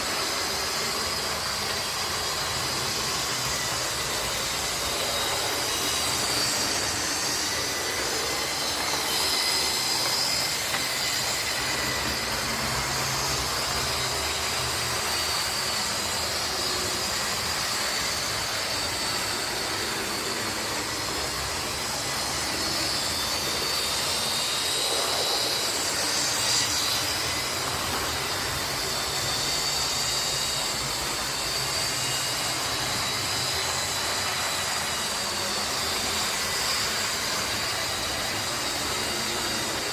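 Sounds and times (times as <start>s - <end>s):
model train running with whine: 0.0s - 39.9s.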